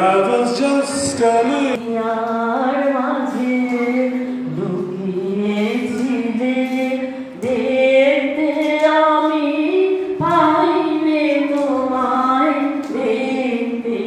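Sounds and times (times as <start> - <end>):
woman singing long held notes: 1.8 - 14.0.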